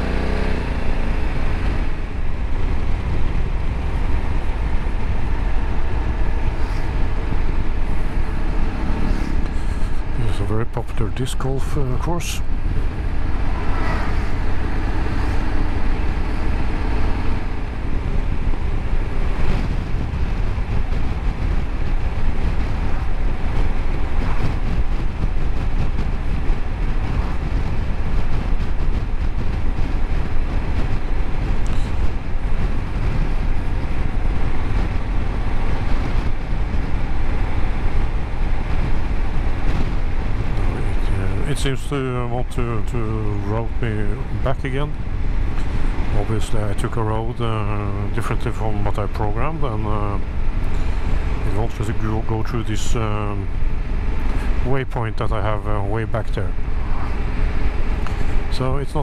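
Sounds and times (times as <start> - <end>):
motorcycle road noise: 0.0 - 59.0
wind rush on microphone: 0.0 - 59.0.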